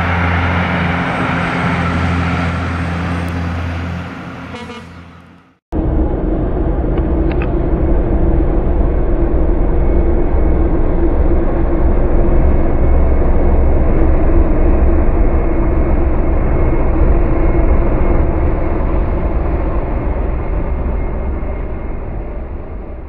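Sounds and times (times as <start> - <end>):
diesel railcar passing: 0.0 - 23.0.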